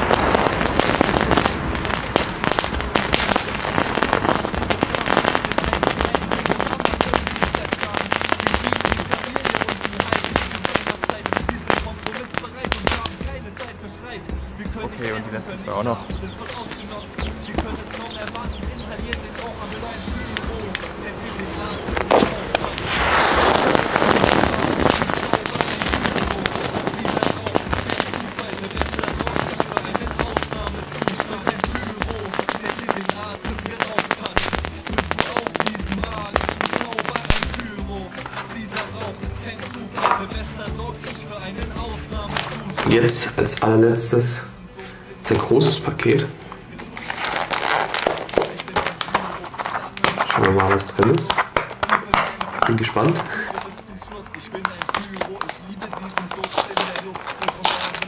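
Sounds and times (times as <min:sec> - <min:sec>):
crackling pops: 0:00.0 - 0:13.9, 0:14.7 - 0:58.0
firework fountain hissing: 0:00.0 - 0:58.0.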